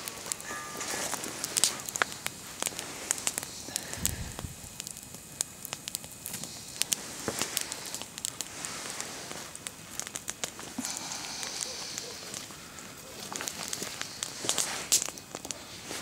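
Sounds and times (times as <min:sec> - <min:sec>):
crackling and snapping: 0:00.0 - 0:16.0
faint hiss: 0:00.0 - 0:16.0.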